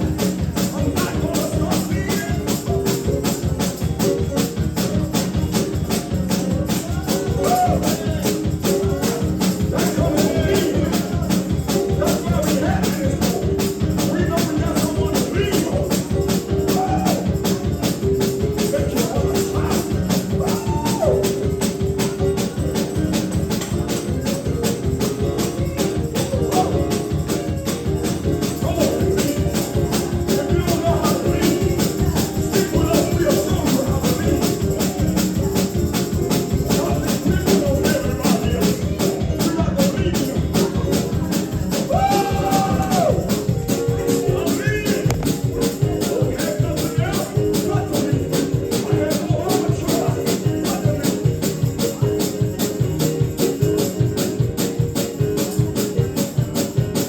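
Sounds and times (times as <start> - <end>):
voices singing: 0.0 - 22.9, 28.3 - 51.7
tambourine beat: 0.0 - 57.0.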